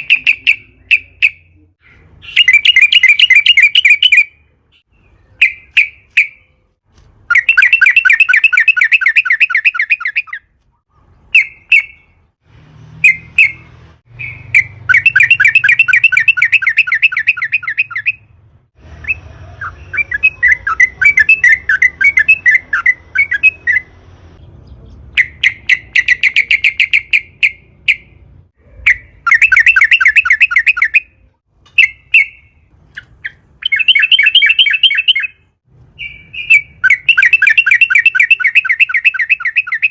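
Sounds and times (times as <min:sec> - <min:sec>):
bird singing trilled phrases: 0:00.0 - 0:06.5, 0:07.3 - 0:10.5, 0:13.0 - 0:18.3, 0:19.0 - 0:28.1, 0:28.8 - 0:39.9.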